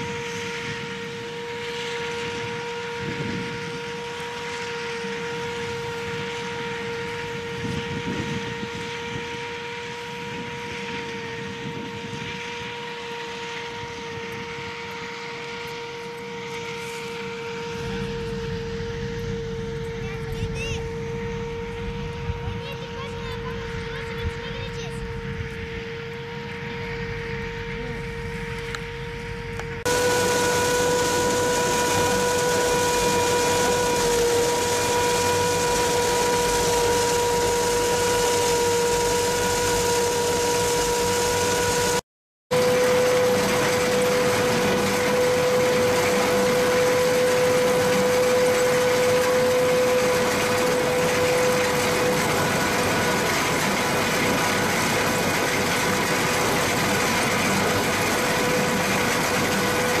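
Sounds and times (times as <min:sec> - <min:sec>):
harvester machine humming: 0:00.0 - 1:00.0.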